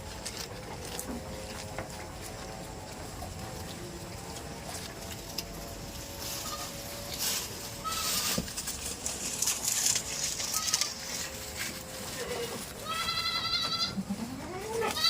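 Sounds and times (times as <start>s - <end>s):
goats rustling and crunching: 0.0s - 15.0s.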